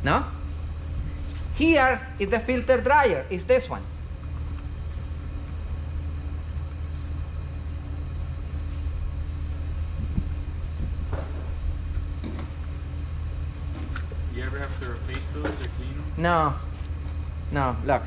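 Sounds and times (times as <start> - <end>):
faint constant tone: 0.0 - 18.0
low machinery hum: 0.0 - 18.0.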